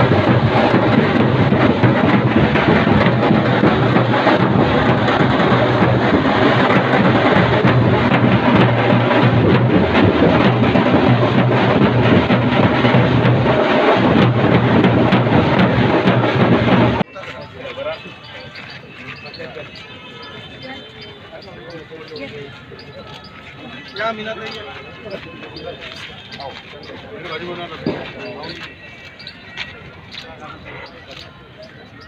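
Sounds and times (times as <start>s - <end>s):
dhol drums beaten: 0.0s - 32.0s.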